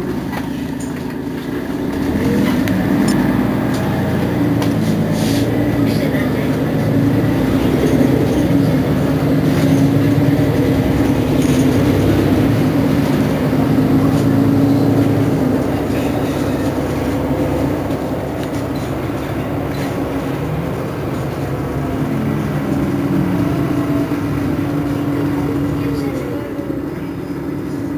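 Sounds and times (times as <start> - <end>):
bus engine idling: 0.0 - 27.9.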